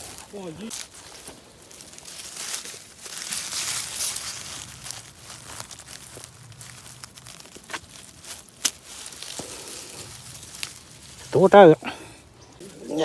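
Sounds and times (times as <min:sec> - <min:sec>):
footsteps through undergrowth: 0:00.0 - 0:13.0
twigs snapping: 0:00.0 - 0:13.0.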